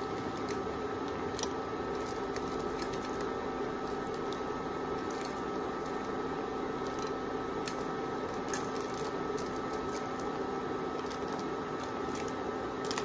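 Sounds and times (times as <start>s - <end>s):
cooking pops and crackles: 0.0s - 13.0s
wok hissing and humming: 0.0s - 13.0s.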